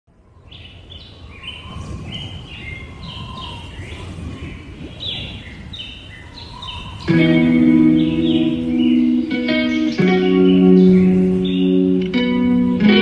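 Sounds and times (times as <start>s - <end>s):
birds chirping: 0.1s - 13.0s.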